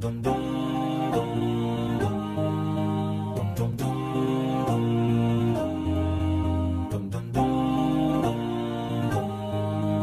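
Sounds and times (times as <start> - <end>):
instrumental music with held chords: 0.0 - 10.0.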